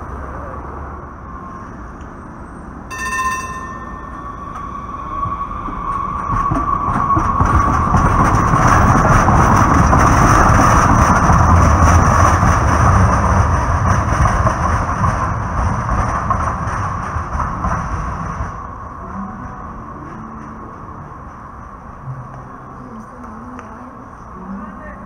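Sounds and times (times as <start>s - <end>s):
train wheels rumbling on rails: 1.2s - 25.0s.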